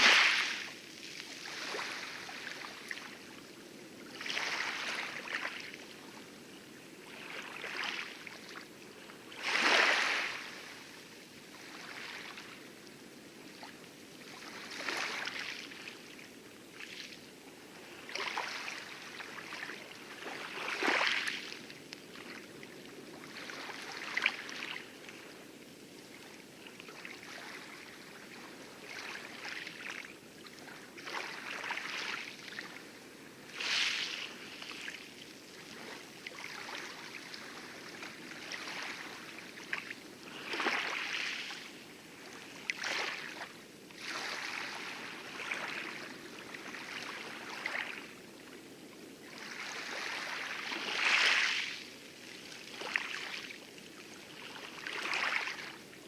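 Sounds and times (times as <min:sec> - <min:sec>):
waves lapping on coral: 0:00.0 - 0:56.0.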